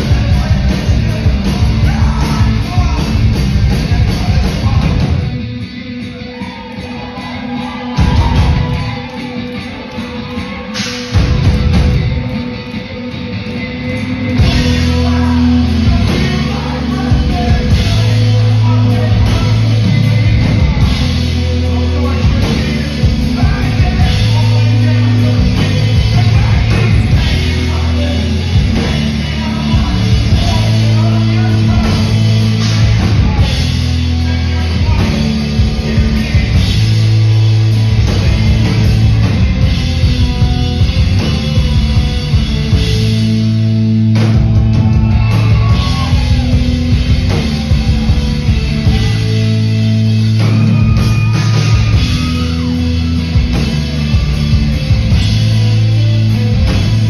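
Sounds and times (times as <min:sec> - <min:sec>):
live rock band: 0:00.0 - 0:57.0
person singing: 0:00.0 - 0:57.0.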